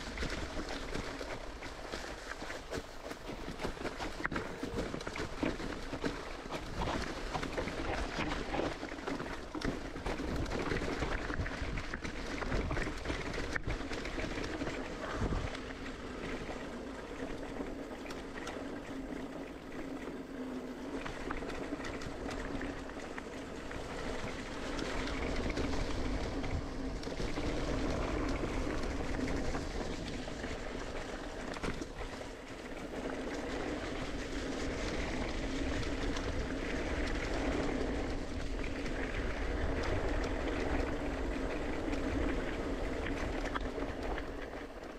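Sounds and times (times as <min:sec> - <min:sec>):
mountain bike tyre rumble: 0:00.0 - 0:44.9.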